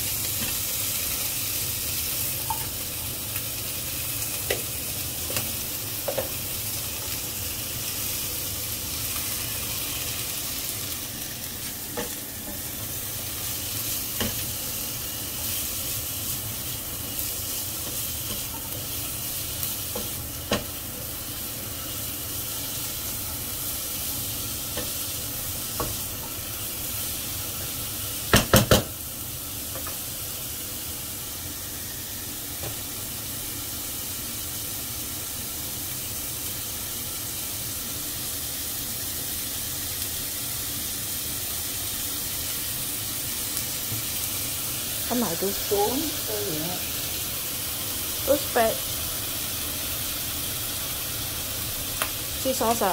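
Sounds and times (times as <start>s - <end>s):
vegetables sizzling in a wok: 0.0s - 52.9s.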